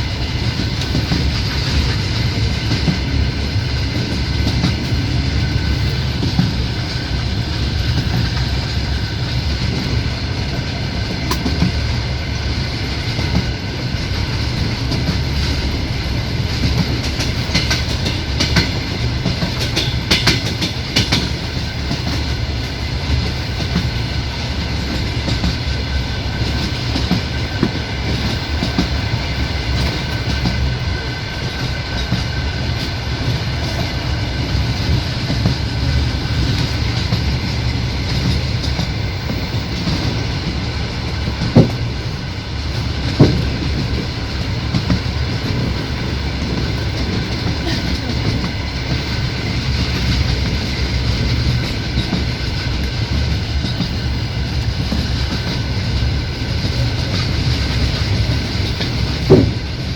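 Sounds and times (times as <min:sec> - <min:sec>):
train rumble: 0:00.0 - 0:59.9
wheels clickety-clack on rail joints: 0:00.0 - 0:59.9.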